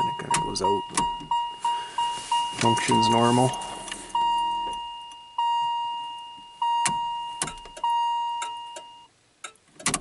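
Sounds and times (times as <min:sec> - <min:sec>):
dashboard warning chime dinging: 0:00.0 - 0:09.1.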